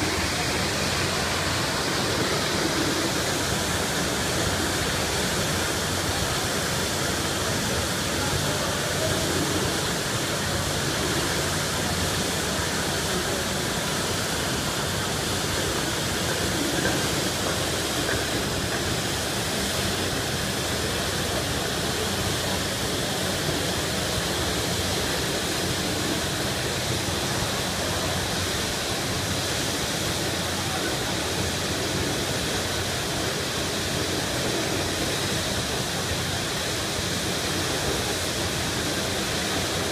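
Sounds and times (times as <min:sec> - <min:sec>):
water gushing from hydrant: 0:00.0 - 0:39.9.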